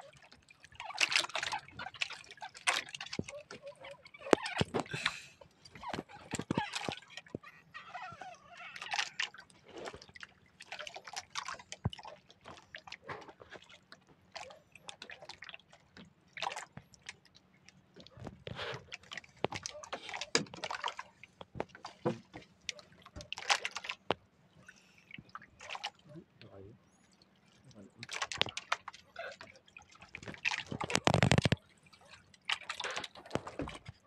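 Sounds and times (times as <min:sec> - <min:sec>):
water splashing and dripping: 0:00.0 - 0:34.0.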